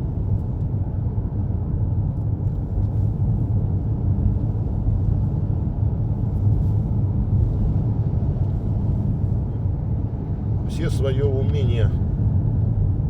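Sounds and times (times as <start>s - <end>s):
car engine rumble inside cabin: 0.0s - 13.0s
road noise: 0.0s - 13.0s.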